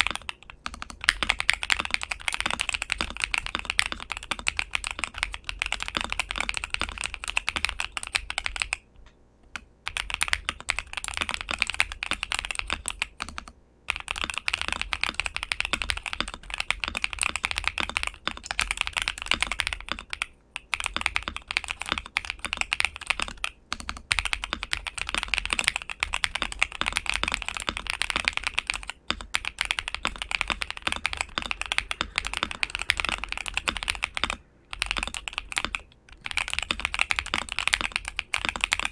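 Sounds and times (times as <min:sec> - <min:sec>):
fast typing on mechanical keyboard: 0:00.0 - 0:08.9, 0:09.8 - 0:38.9.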